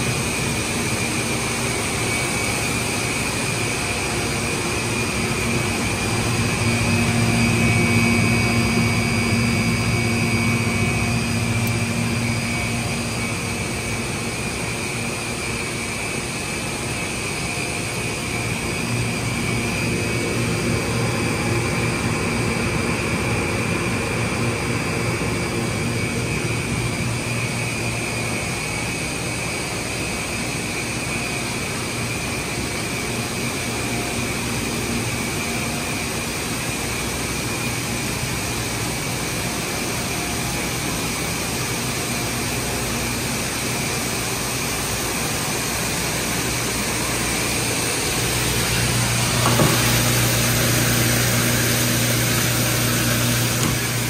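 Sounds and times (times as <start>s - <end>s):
machine drone with motor whine: 0.0s - 54.0s.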